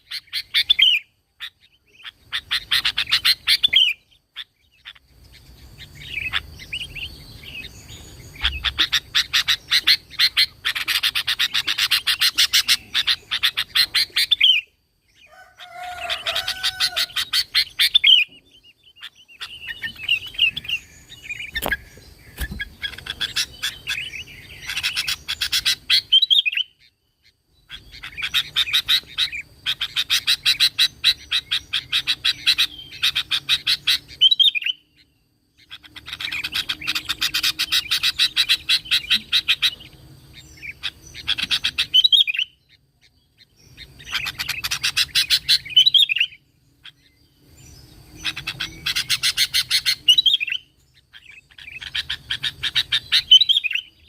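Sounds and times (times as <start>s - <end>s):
bulbul chattering song: 0.0s - 54.0s.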